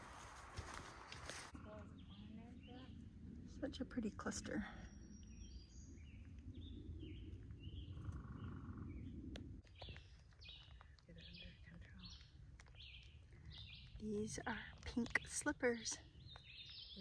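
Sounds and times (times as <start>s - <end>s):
low rumble: 0.0s - 15.4s
songbirds chirping: 0.0s - 17.0s.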